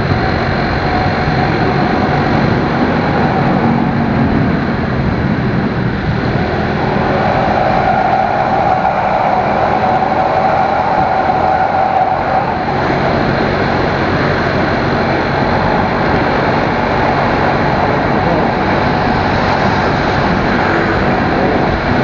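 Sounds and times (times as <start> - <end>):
low motorcycle engine hum: 0.0 - 22.0
wind and road noise: 0.0 - 22.0.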